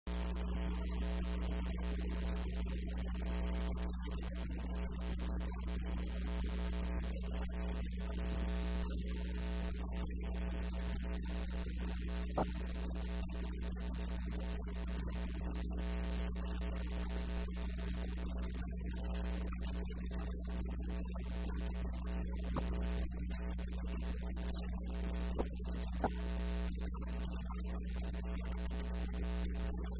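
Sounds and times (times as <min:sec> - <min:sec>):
electrical mains hum: 0:00.1 - 0:29.9.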